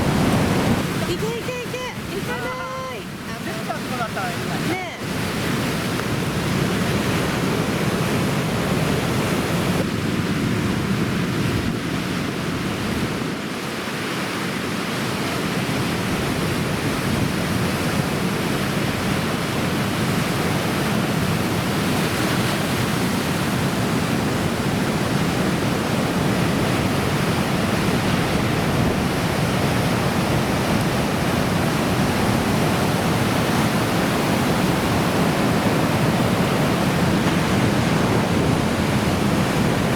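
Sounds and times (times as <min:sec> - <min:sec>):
heavy ocean surf breaking: 0:00.0 - 0:39.9.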